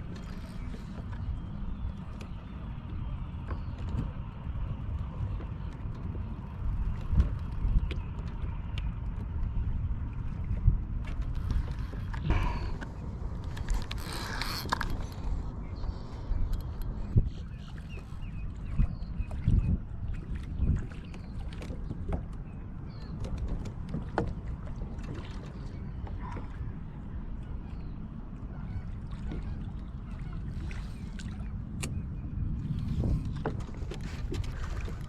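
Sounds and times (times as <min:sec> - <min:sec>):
wind and water rumble: 0:00.0 - 0:35.0.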